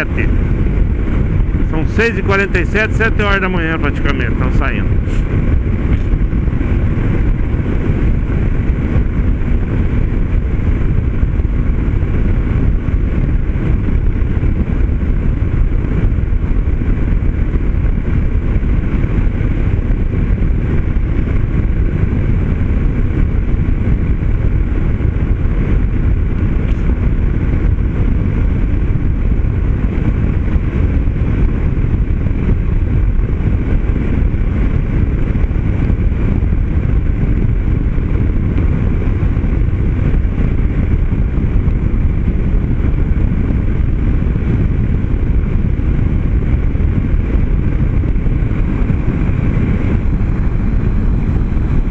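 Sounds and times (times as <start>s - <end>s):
motorcycle engine cruising: 0.0s - 51.9s
wind noise: 0.0s - 51.9s.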